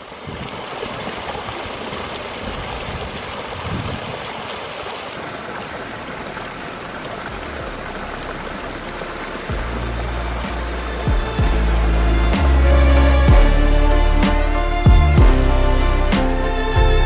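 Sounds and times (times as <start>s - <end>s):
waterfall pouring and splashing: 0.0s - 17.0s.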